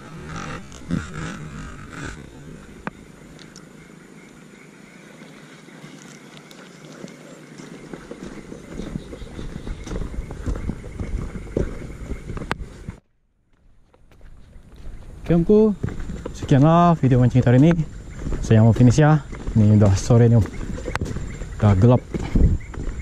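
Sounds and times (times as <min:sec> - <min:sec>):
footsteps on muddy track: 0:00.0 - 0:23.0.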